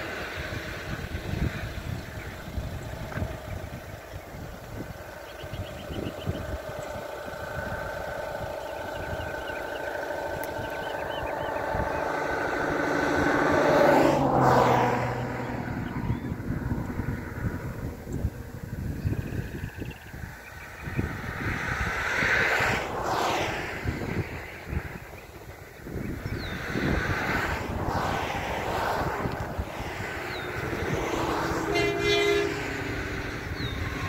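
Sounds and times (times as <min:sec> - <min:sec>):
motor vehicle passing by: 0:00.0 - 0:34.0.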